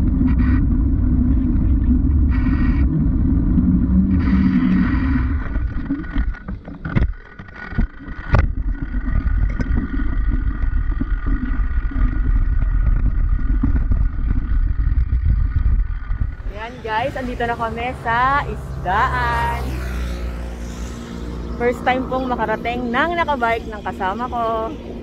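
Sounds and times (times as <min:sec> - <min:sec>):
muffled wind and road noise: 0:00.0 - 0:25.0.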